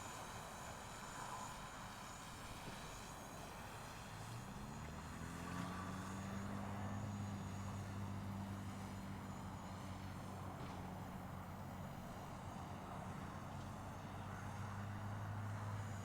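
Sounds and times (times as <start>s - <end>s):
low engine hum: 0.5s - 16.0s.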